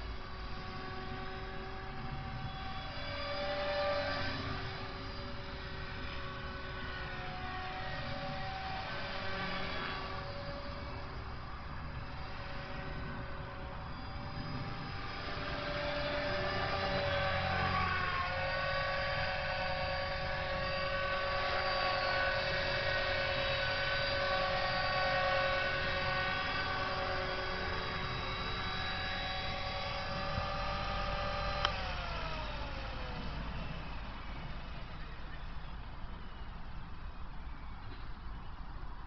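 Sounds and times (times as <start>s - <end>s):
rc helicopter motor whine: 0.0s - 39.0s.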